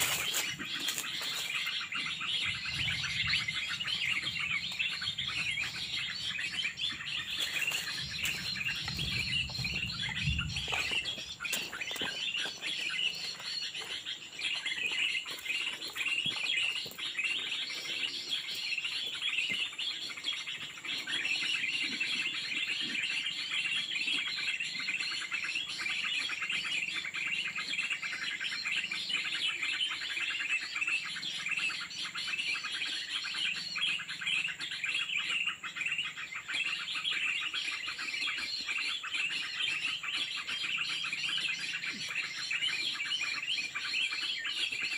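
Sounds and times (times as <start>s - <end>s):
songbirds chirping and twittering: 0.0s - 44.9s.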